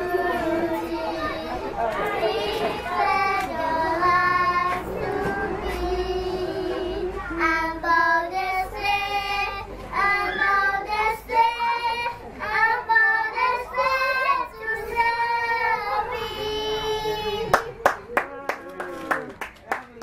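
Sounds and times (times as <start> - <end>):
girls singing together: 0.0 - 17.8.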